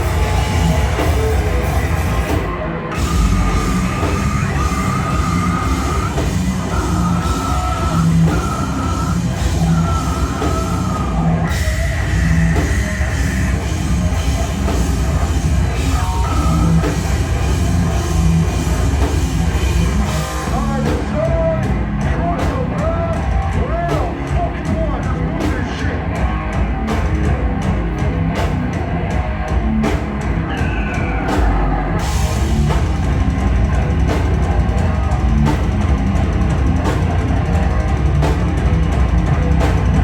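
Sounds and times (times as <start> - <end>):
heavy band playing live: 0.0 - 40.0
yelled vocals: 0.0 - 40.0.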